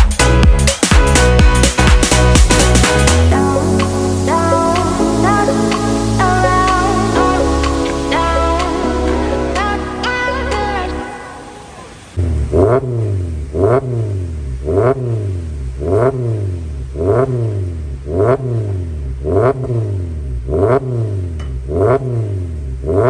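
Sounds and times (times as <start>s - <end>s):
car engine revving: 1.1s - 23.0s.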